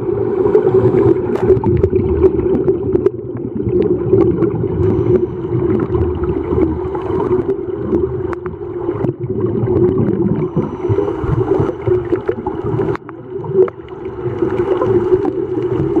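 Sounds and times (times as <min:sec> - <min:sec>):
low underwater hum: 0:00.0 - 0:16.0.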